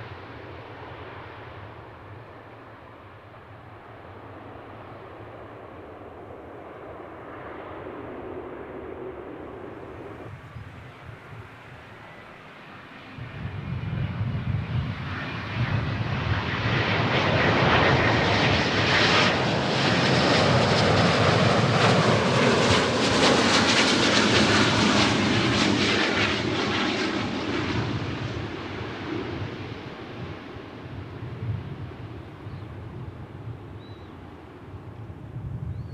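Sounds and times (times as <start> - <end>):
jet engines passing by: 0.0 - 35.9.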